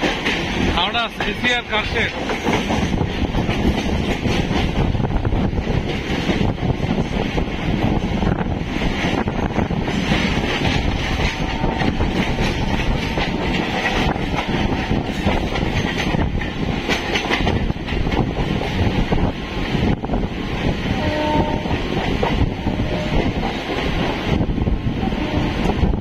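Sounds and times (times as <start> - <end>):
train wheels clattering over rail joints: 0.0 - 24.5
electric train running rumble: 0.0 - 26.0.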